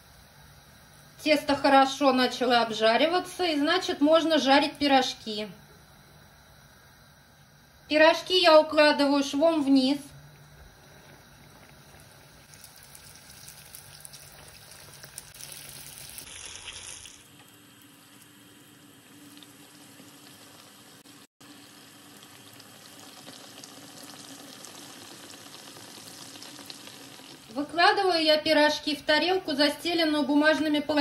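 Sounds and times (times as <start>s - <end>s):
dough frying in oil: 0.0s - 5.0s, 9.0s - 31.0s.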